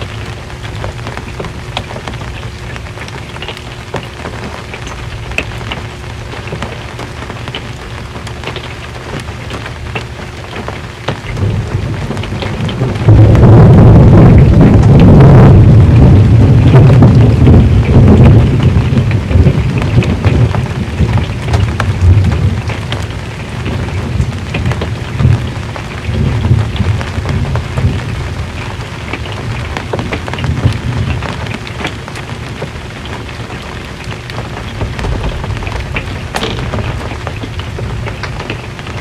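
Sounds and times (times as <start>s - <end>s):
rain on a metal roof: 0.0s - 39.0s
thunder rumbling: 0.0s - 39.0s.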